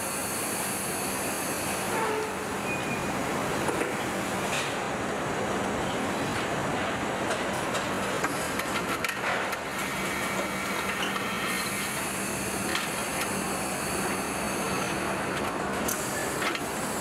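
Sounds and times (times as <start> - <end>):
hiss of running equipment: 0.0 - 17.0
machinery hum: 0.0 - 17.0.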